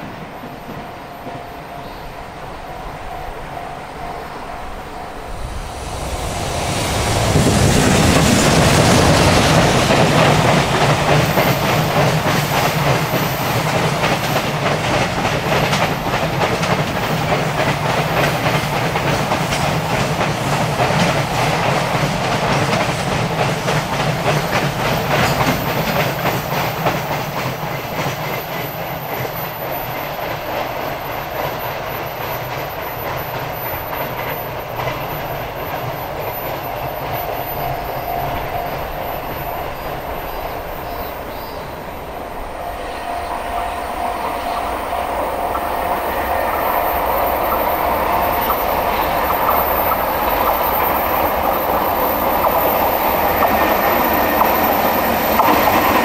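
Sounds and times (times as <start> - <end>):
train wheels clacking over rail joints: 7.1 - 41.5, 44.3 - 56.0.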